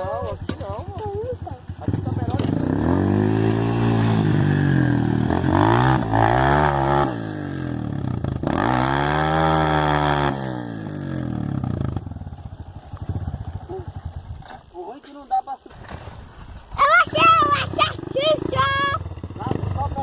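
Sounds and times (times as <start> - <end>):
dirt bike engine revving: 0.0 - 14.9, 15.7 - 20.0.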